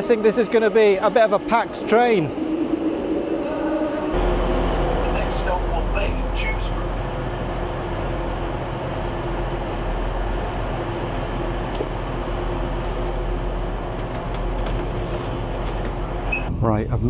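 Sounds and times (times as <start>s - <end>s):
train machinery and ventilation hum: 0.0s - 17.0s.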